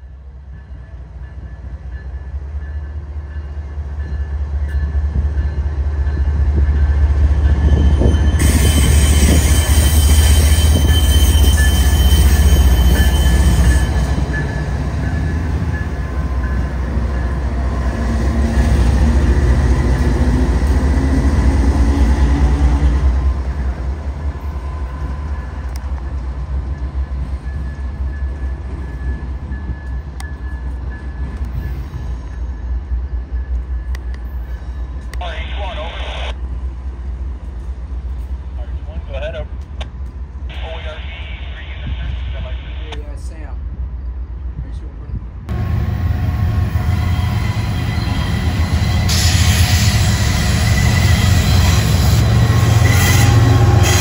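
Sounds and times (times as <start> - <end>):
diesel locomotive rumble: 0.0 - 54.0.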